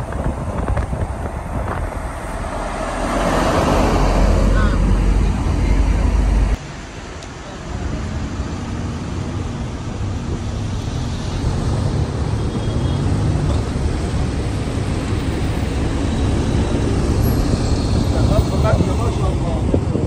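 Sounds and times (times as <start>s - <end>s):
traffic rumble on wet road: 0.0s - 20.0s.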